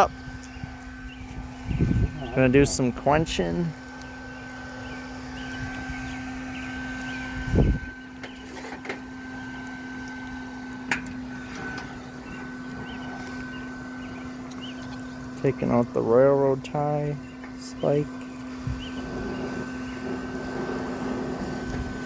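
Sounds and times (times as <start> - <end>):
two-tone machine hum: 0.0 - 22.0.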